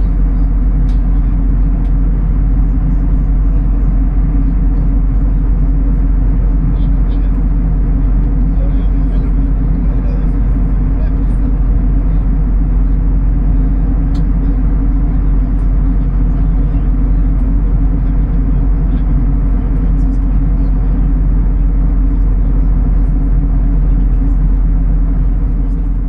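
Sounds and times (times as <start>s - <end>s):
vehicle rumbling in motion: 0.0s - 26.0s.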